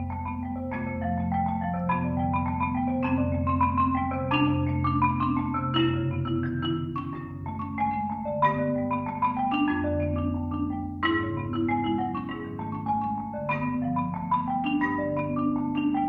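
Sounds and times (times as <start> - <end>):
marimba played with four mallets: 0.0 - 16.0.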